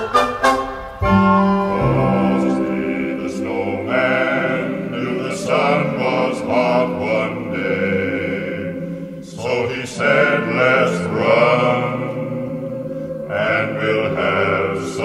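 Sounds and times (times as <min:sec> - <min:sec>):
choir singing in harmony: 0:00.0 - 0:15.0
sustained chords: 0:00.0 - 0:15.0.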